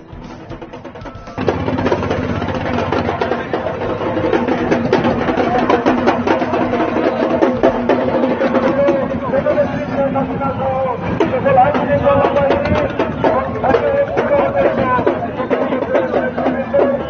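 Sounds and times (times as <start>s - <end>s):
fast dense drumming: 0.0s - 17.0s.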